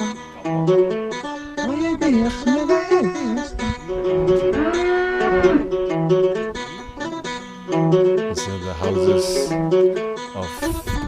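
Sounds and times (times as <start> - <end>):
song with plucked strings: 0.0 - 11.0.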